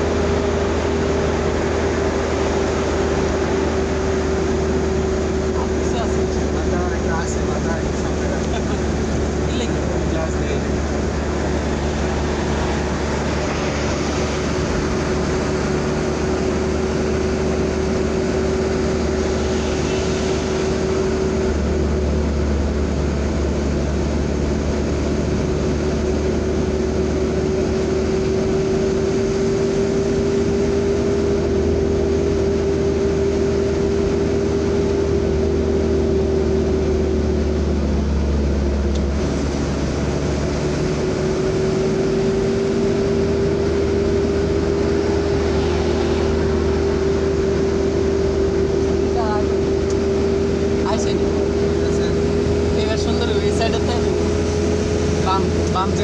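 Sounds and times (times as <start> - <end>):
steady whine: 0.0 - 56.0
truck engine and road noise: 0.0 - 56.0.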